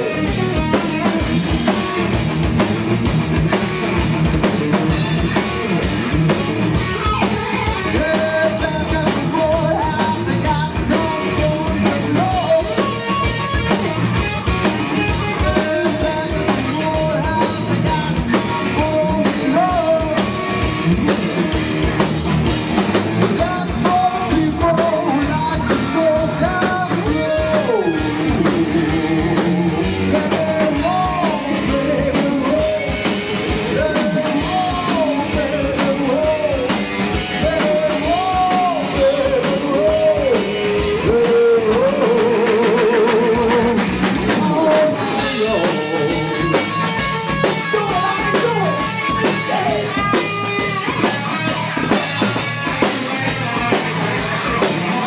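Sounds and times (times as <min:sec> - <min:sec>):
bass guitar: 0:00.0 - 0:55.0
drum kit beat: 0:00.0 - 0:55.0
electric guitars: 0:00.0 - 0:55.0
man singing lead vocal: 0:06.9 - 0:13.7, 0:14.9 - 0:21.6, 0:23.2 - 0:55.0.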